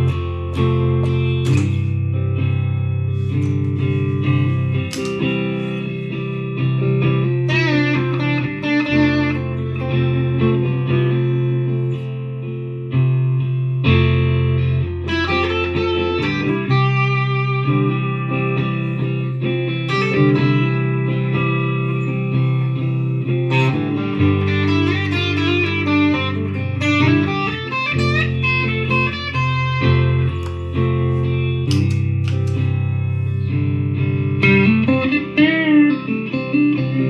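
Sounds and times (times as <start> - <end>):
electric guitar melodic lines: 0.0 - 37.0.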